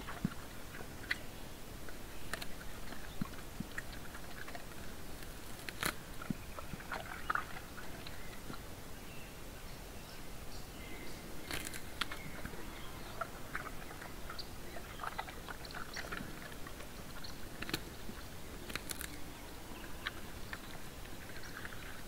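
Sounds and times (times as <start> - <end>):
bear chewing and crunching food: 0.0 - 8.6, 11.2 - 22.0.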